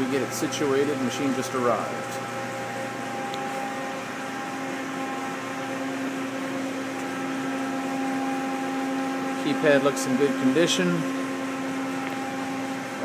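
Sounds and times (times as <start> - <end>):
cooling fans hissing: 0.0 - 13.0
electrical hum: 0.0 - 13.0.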